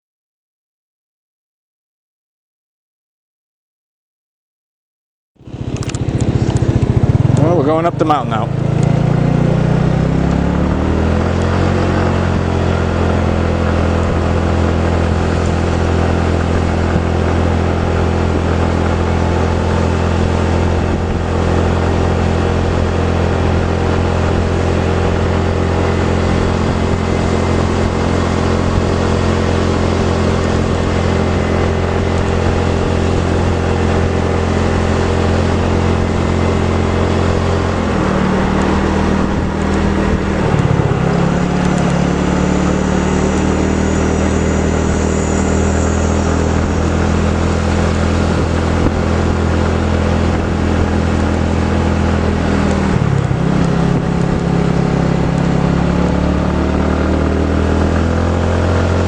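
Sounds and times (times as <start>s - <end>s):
road noise: 5.4s - 59.0s
vehicle engine under load: 5.4s - 59.0s.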